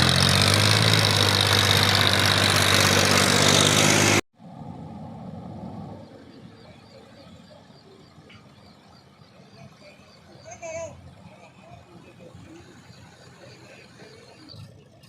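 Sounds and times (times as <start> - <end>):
faint engine rumble: 0.0 - 15.0
loud vehicle engine running: 0.0 - 15.0.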